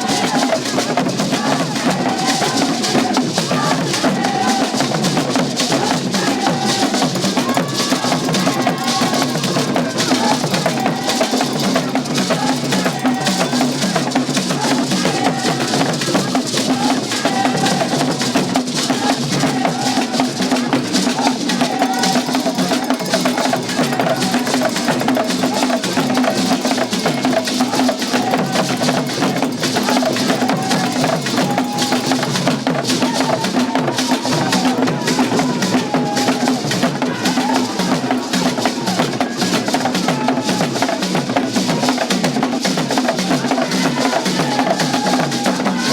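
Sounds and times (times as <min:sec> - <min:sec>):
drum and percussion music: 0:00.0 - 0:45.9.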